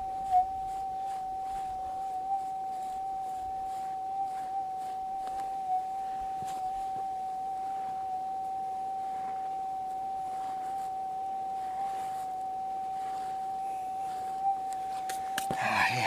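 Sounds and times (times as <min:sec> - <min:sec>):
metal detector high tone: 0:00.0 - 0:16.0.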